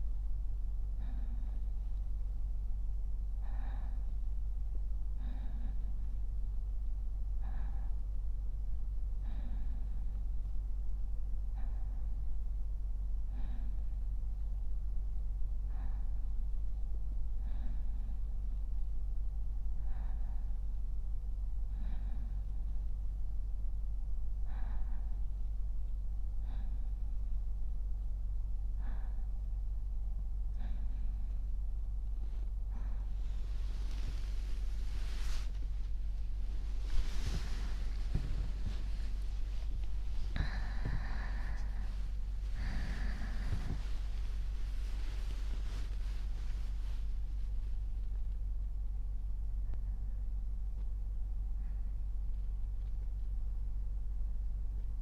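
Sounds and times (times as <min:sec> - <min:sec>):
soft sleeping breaths: 0:00.0 - 0:55.0
steady low hum: 0:00.0 - 0:55.0.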